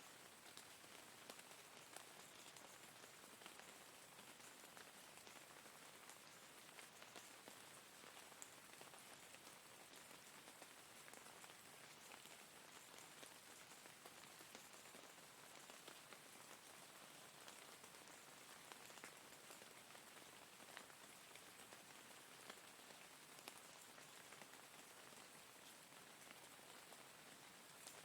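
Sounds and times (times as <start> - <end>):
faint rain hiss: 0.0 - 28.0.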